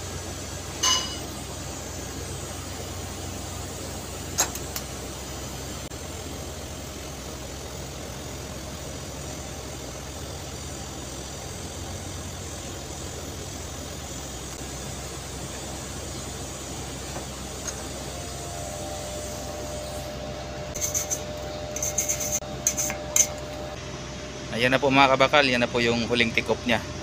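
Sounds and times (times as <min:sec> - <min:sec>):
faint welding hiss: 0:00.0 - 0:23.7
welding set humming: 0:00.0 - 0:27.0.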